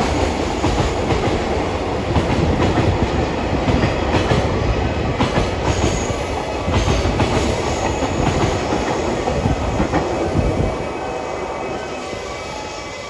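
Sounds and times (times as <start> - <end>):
train rumble: 0.0 - 12.9.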